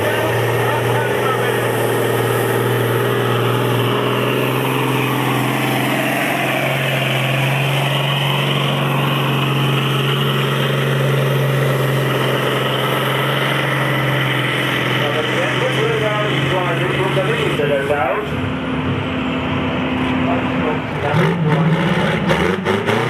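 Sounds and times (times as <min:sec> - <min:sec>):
diesel engine running under full load: 0:00.0 - 0:23.0.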